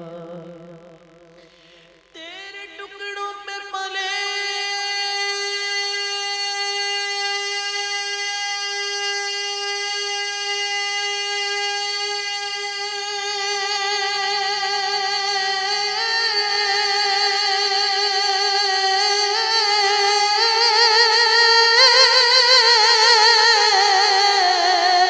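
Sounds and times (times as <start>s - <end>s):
man singing without words: 0.0s - 25.0s.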